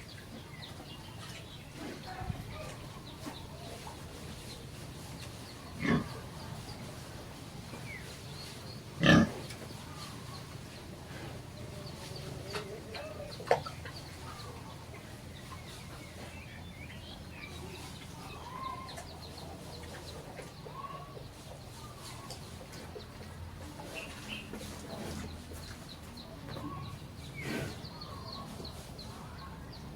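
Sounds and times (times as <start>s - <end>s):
chickens clucking: 0.0s - 29.9s
low background noise: 0.0s - 29.9s.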